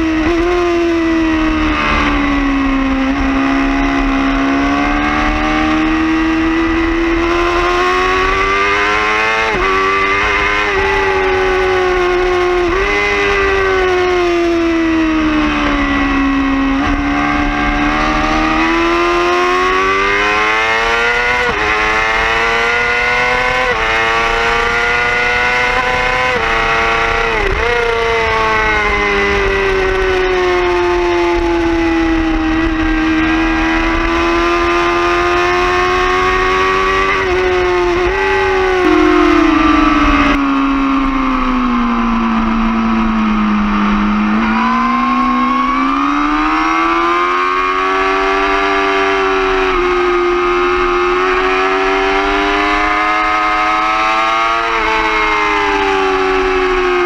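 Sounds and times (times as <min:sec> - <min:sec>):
sport bike engine revving: 0:00.0 - 0:30.1, 0:32.2 - 0:57.0.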